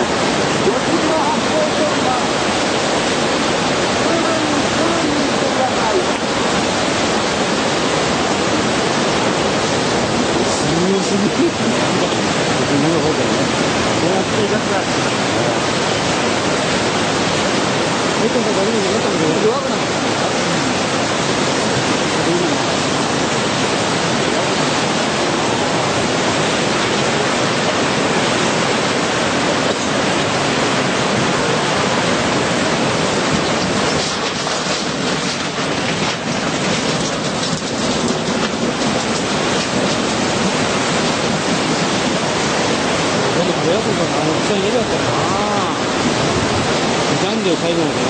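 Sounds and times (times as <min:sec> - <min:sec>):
floodwater rushing roar: 0:00.0 - 0:48.0.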